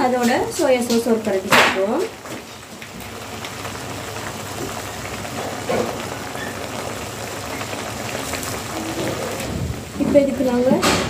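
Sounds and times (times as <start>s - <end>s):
sauce simmering in a wok: 0.1s - 10.8s.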